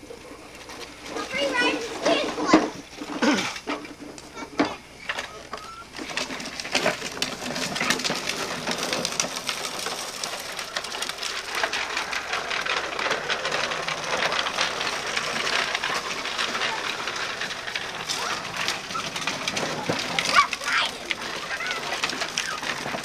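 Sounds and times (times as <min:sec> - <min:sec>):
plastic wheels rolling on concrete: 0:00.0 - 0:23.0.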